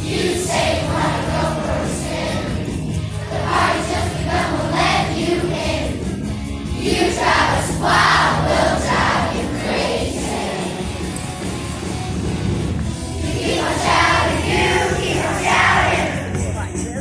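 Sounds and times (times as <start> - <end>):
children singing: 0.0 - 11.2, 13.2 - 16.4
backing music with bass line: 0.0 - 17.0.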